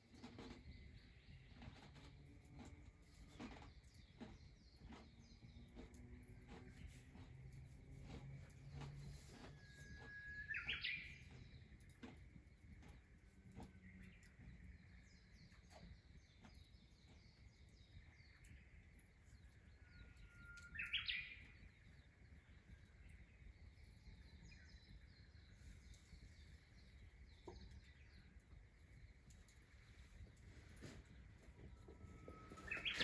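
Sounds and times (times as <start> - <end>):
birds chirping faintly: 0.0 - 33.0.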